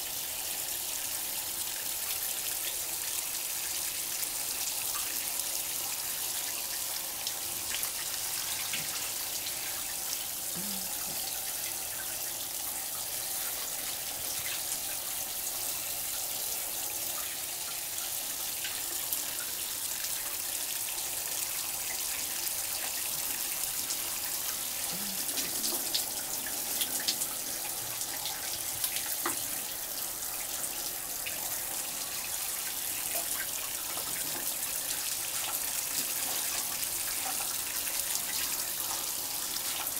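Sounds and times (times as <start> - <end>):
shower water splashing in tiled stall: 0.0 - 39.9
small water drips: 0.5 - 39.9.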